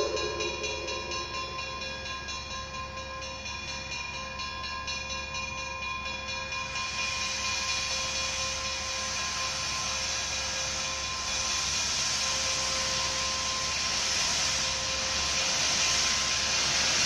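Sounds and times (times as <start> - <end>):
steam locomotive hissing steam: 0.0 - 2.4, 3.3 - 17.0.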